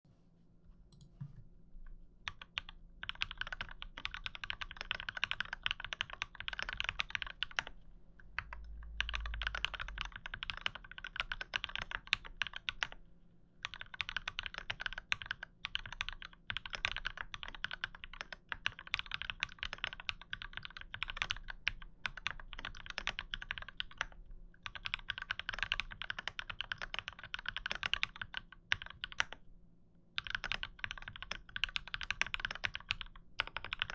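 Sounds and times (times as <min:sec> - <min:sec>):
mechanical keyboard typing: 0:02.3 - 0:07.7, 0:08.4 - 0:13.0, 0:13.6 - 0:29.4, 0:30.2 - 0:33.9.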